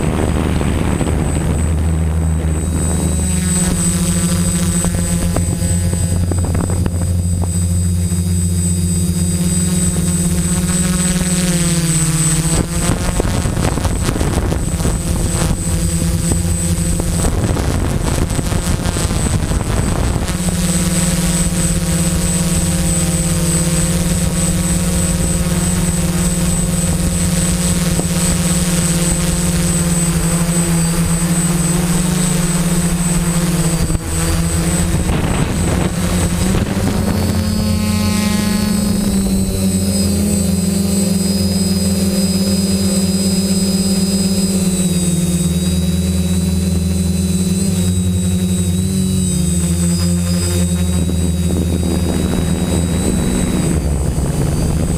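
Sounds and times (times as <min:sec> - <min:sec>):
drone motors and propellers humming: 0:00.0 - 0:54.9.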